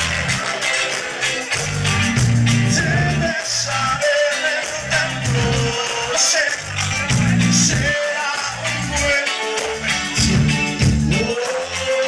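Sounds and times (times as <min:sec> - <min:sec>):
bass: 0:00.0 - 0:12.0
drums: 0:00.0 - 0:12.0
electric guitar: 0:00.0 - 0:12.0
keyboards: 0:00.0 - 0:12.0.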